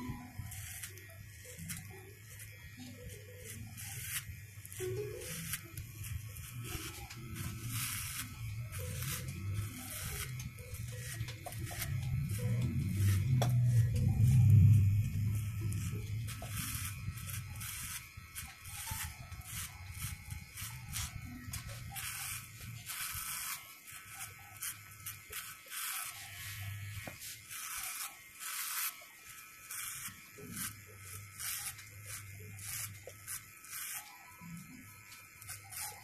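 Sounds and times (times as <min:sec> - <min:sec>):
clippers cutting hair: 0:00.0 - 0:36.0
electric hair clippers buzzing: 0:00.0 - 0:36.0.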